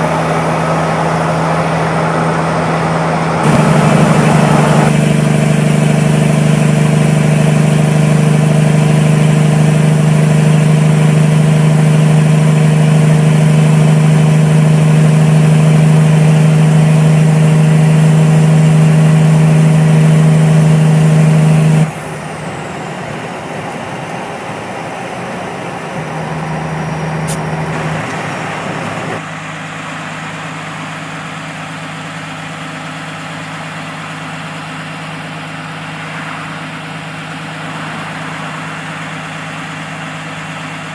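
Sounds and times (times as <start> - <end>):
truck engine droning: 0.0 - 40.9
truck engine idling: 0.0 - 40.9.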